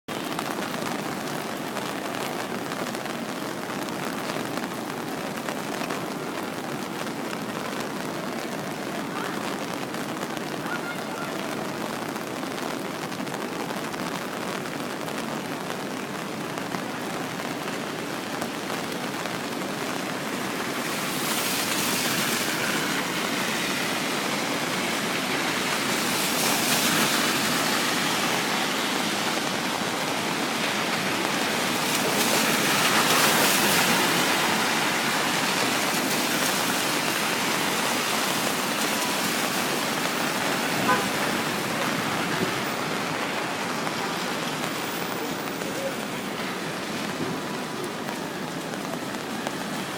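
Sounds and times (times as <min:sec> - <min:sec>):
heavy rain downpour: 0:00.0 - 0:49.9
wind: 0:00.0 - 0:49.9.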